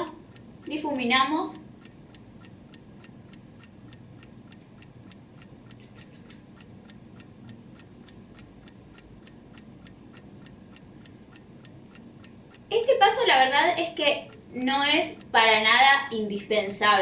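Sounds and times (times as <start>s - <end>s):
clock ticking: 0.0s - 17.0s.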